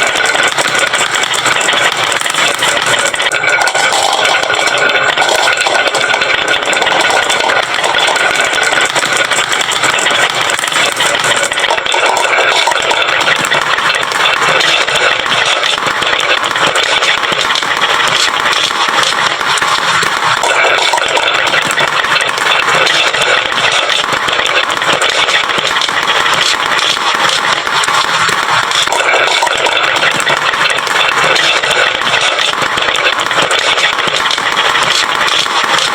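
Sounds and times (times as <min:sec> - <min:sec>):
marbles rattling down wooden tracks: 0:00.0 - 0:35.9.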